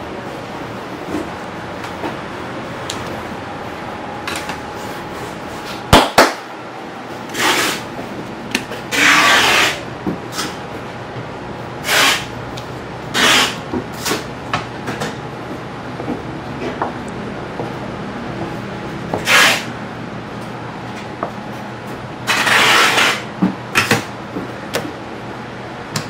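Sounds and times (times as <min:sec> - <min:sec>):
shop background hum: 0:00.0 - 0:26.0.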